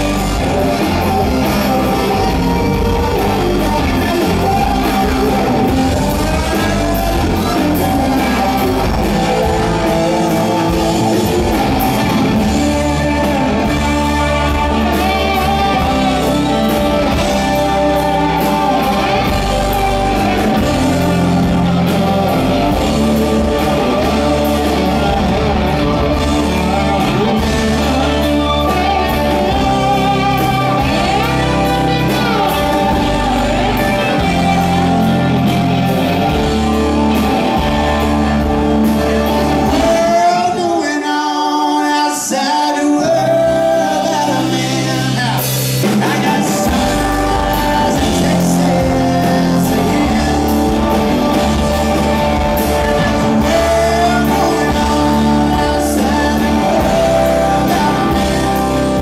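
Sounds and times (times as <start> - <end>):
bending lead guitar lines: 0.0 - 40.8, 43.1 - 59.0
live rock band playing: 0.0 - 59.0.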